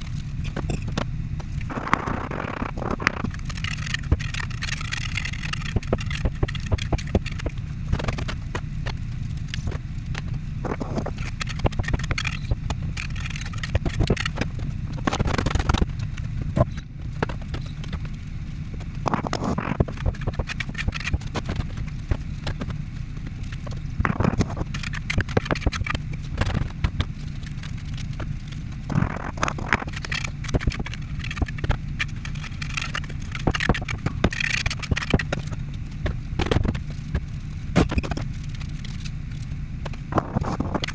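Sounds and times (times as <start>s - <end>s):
bricks and mortar scraping: 0.0s - 39.0s
steady low rumble: 0.0s - 40.9s.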